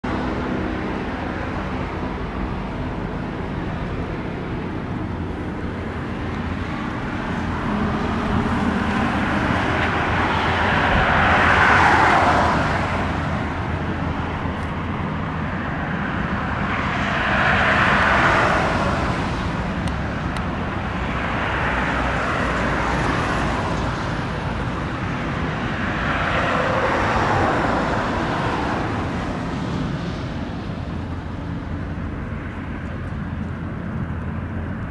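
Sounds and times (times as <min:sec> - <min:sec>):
road traffic rumble: 0:00.0 - 0:34.9
vehicles passing: 0:00.0 - 0:34.9.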